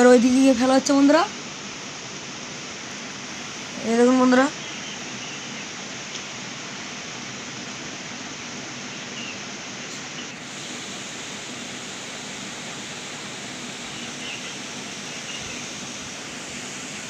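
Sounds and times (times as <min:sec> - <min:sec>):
water rushing over weir: 0:02.4 - 0:17.0.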